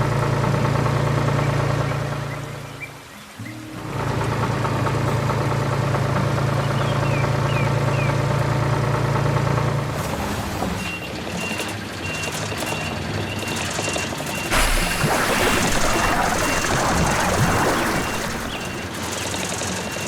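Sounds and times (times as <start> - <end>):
heavy vehicle engine running: 0.0 - 2.7, 3.7 - 20.0.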